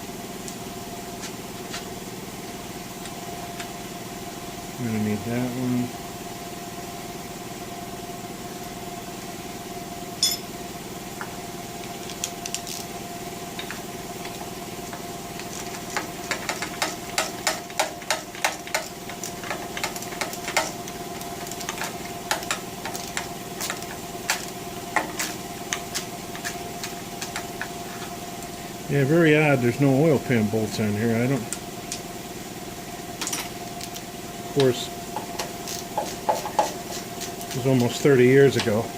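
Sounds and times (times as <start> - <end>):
steady shop hum: 0.0 - 38.9.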